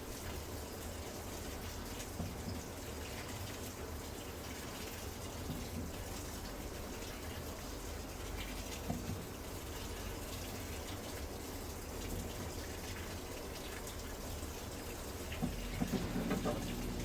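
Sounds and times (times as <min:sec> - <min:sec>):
water filling washing machine drum: 0:00.0 - 0:17.0.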